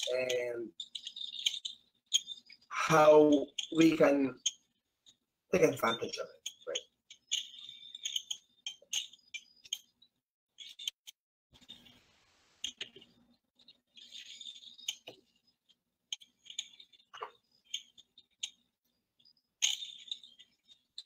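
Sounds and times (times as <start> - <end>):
small handling noises: 0.0 - 21.0.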